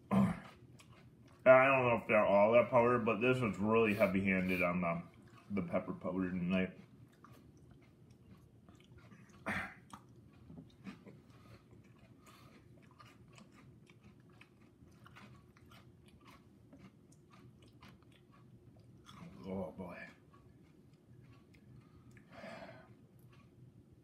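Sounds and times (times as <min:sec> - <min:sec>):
cereal crunching while chewed: 0:00.3 - 0:24.0.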